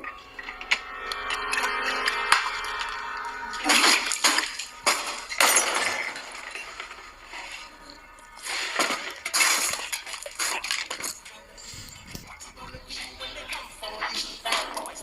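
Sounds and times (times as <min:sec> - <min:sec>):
crashing and clinking: 0:00.0 - 0:15.0.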